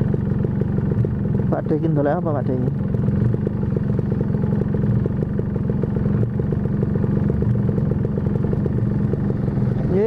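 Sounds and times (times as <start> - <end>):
motorcycle engine droning: 0.0 - 10.0.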